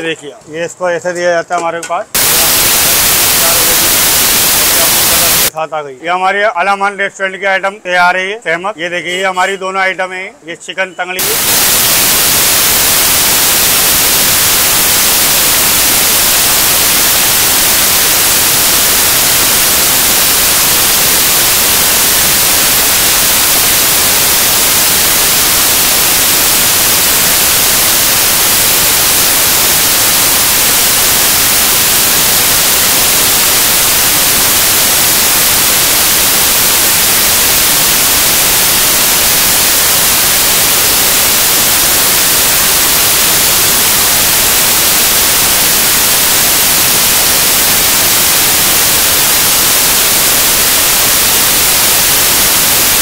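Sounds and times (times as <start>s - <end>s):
static hiss: 0.0s - 53.0s.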